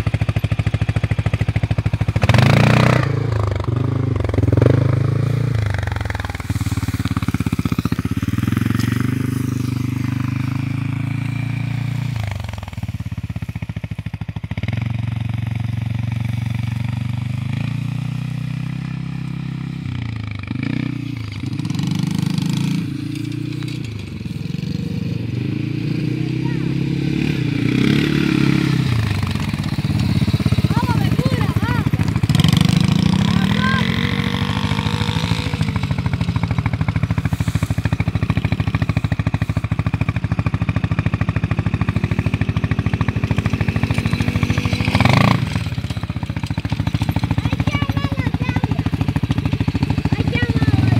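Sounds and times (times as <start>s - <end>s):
quad bike engines revving: 0.0s - 50.9s.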